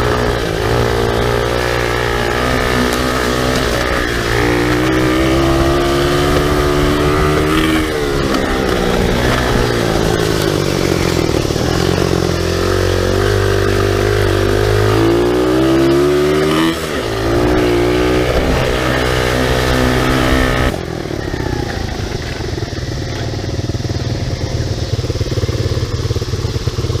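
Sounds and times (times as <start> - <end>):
motorbike engine idling: 0.0 - 16.1, 16.9 - 27.0
motorbike engine revving: 0.0 - 27.0.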